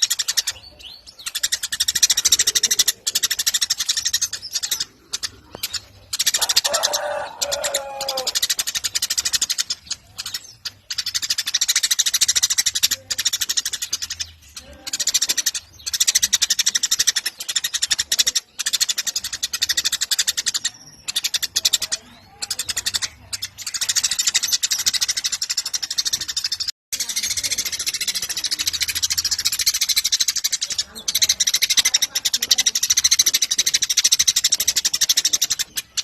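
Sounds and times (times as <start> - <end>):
sparrows chattering: 0.0 - 36.0.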